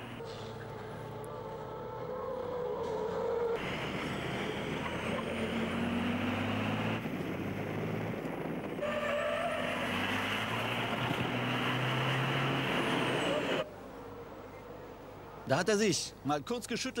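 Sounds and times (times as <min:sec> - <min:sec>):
diesel truck engines racing: 0:00.0 - 0:13.7.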